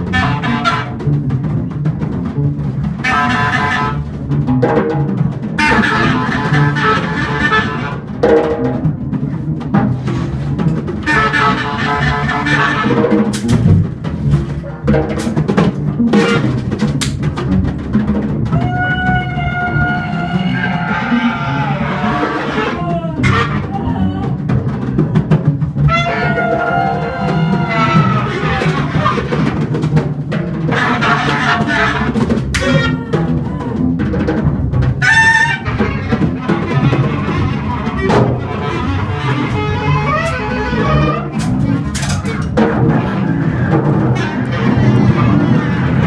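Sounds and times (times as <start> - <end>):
jazz group playing: 0.0 - 46.0.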